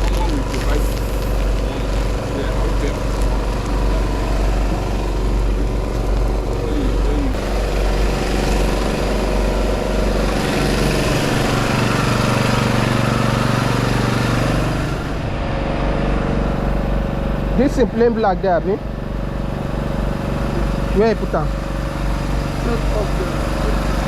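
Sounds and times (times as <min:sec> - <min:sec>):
engine running: 0:00.0 - 0:24.0
street noise: 0:00.0 - 0:24.0.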